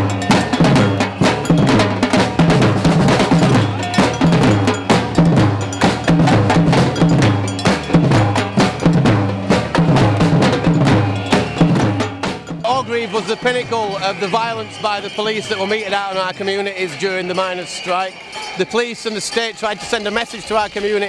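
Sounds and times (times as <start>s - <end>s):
drumming band: 0.0s - 21.0s.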